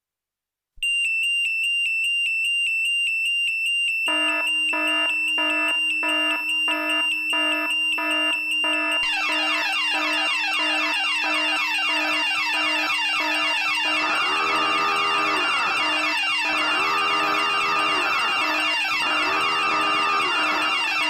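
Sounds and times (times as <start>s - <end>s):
fast high alarm beep: 0.8s - 21.0s
lower alarm tones: 0.8s - 21.0s.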